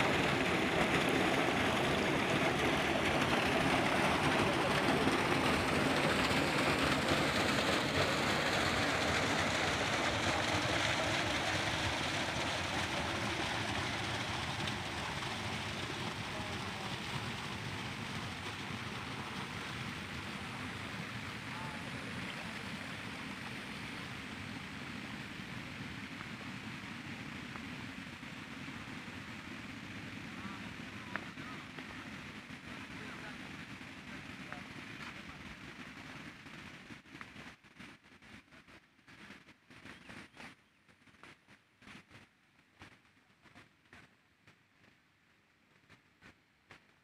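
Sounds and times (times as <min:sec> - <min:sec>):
water rushing along channel: 0:00.0 - 0:40.4.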